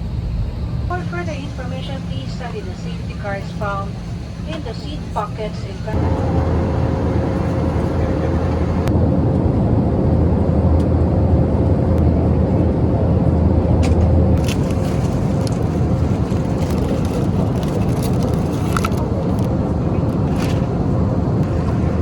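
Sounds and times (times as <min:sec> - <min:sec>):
vehicle rumble inside cabin: 0:00.0 - 0:22.0.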